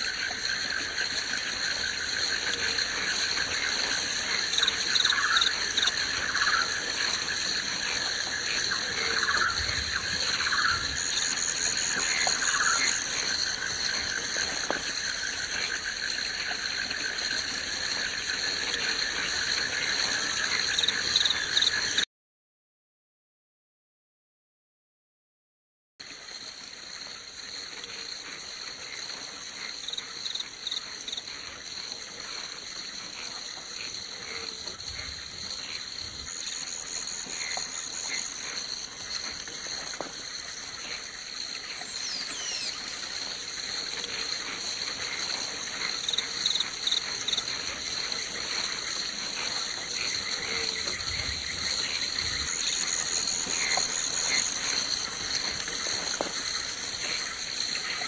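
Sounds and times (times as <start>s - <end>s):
frog and insect chirps: 0.0s - 22.0s, 26.0s - 58.0s
high-pitched insect drone: 0.0s - 22.0s, 26.0s - 58.0s.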